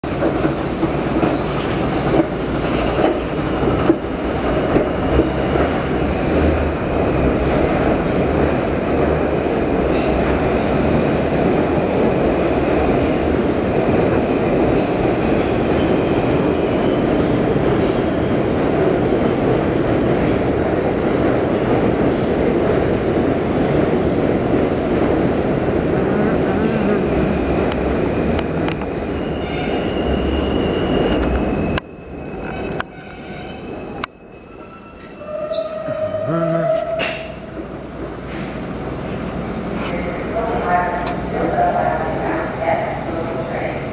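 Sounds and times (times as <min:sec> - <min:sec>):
subway train wheels rumbling: 0:00.0 - 0:43.9.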